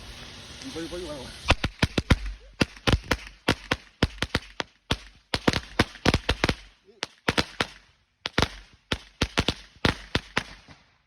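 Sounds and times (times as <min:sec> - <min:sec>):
firecrackers going off: 0:00.0 - 0:11.0.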